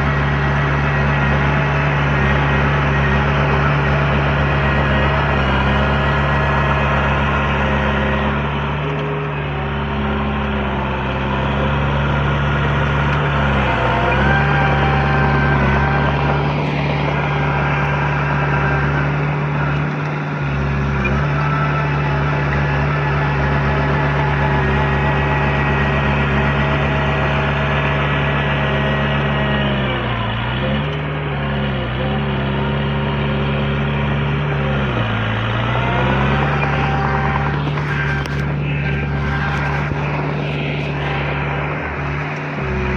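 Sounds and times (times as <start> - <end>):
heavy diesel engine under load: 0.0 - 42.9.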